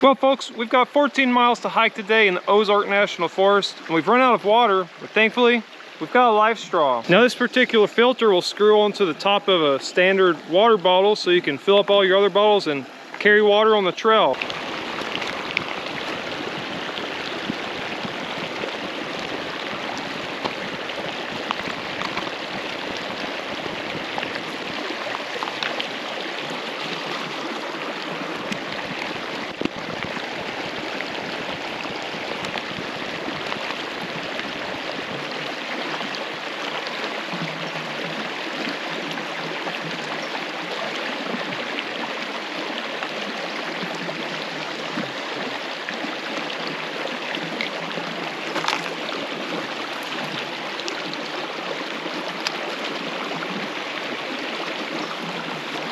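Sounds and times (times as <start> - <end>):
creek water flowing: 0.0 - 55.9.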